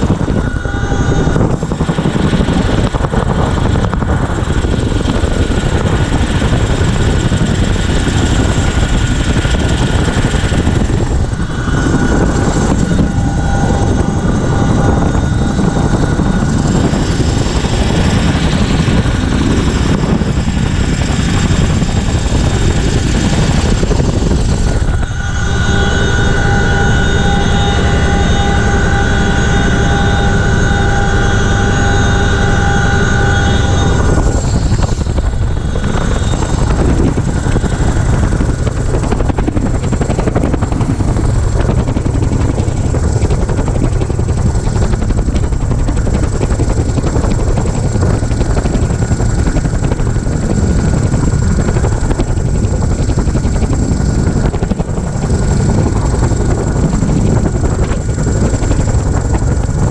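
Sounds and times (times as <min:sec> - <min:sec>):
helicopter rotors and engines: 0:00.0 - 0:59.9
multi-tone engine whine: 0:00.0 - 0:59.9.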